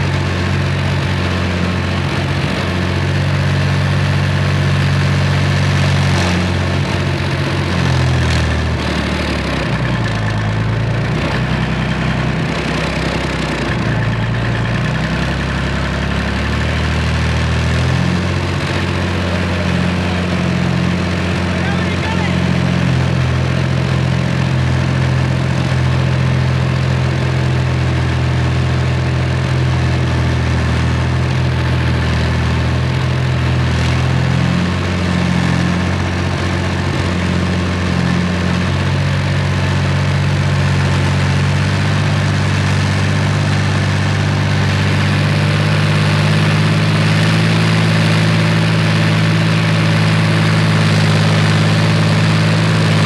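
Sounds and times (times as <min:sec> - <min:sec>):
diesel engine of moving vehicle: 0:00.0 - 0:53.0.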